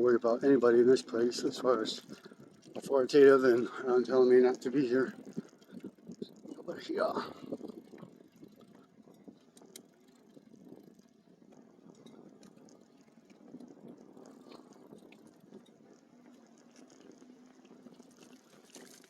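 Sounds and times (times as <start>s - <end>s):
bike tyres rolling on trail: 0.0s - 19.0s
small clicks and rattles: 0.1s - 19.0s.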